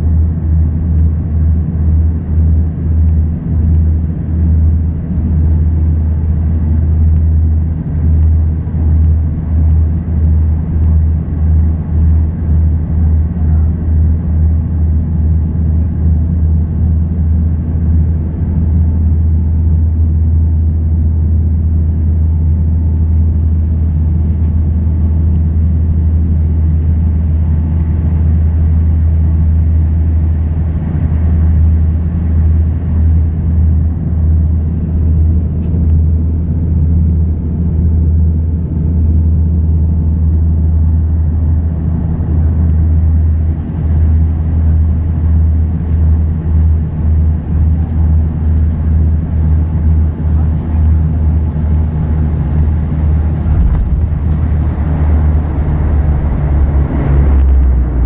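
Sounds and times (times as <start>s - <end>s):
turboprop engine drone: 0.0s - 58.0s.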